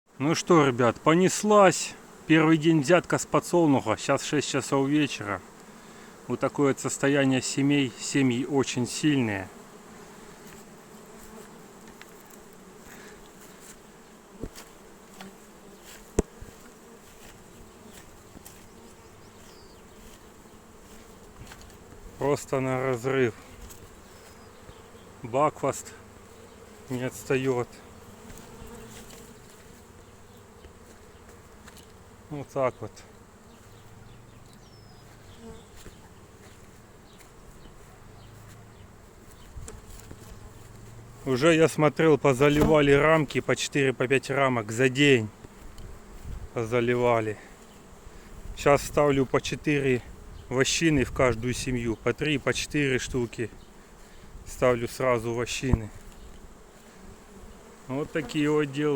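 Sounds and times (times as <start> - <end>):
bee buzzing past: 0.1 - 58.9
honeybees humming: 0.1 - 58.9.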